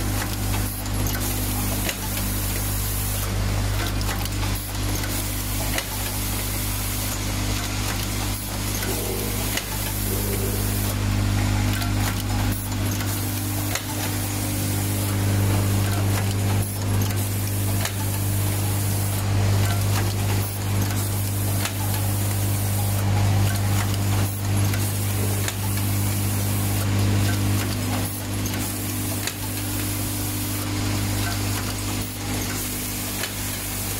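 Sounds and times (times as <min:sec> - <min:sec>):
steady machine hum: 0:00.0 - 0:33.9
sharp pneumatic clicks: 0:00.1 - 0:26.0, 0:30.4 - 0:33.9.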